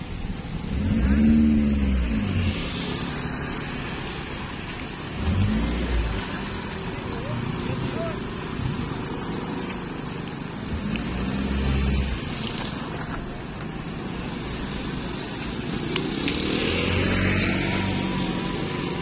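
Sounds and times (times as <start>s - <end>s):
motorcycles passing: 0.0s - 19.0s
small car passing: 0.3s - 19.0s.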